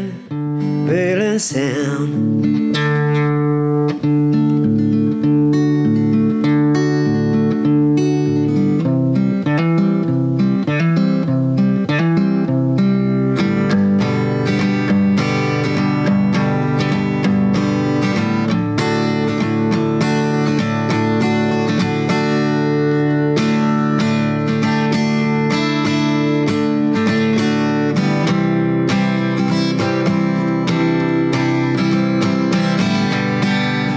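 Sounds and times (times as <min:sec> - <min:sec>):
guitar picked and strummed: 0:00.0 - 0:33.9.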